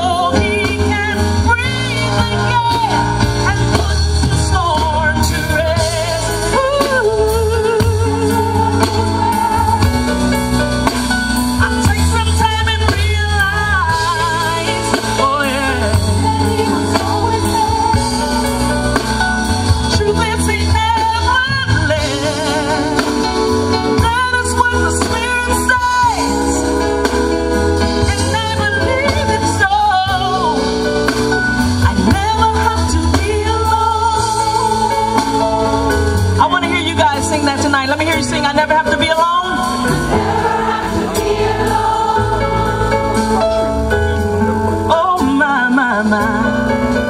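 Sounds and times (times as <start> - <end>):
band with bass line: 0.0 - 47.0.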